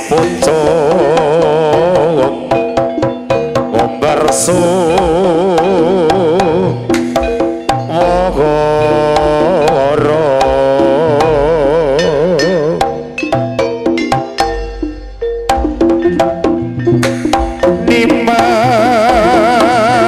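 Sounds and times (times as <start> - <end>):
low booming notes: 0.0 - 19.3
hand drum and percussion: 0.0 - 20.0
wavering vibrato melody: 0.0 - 20.0.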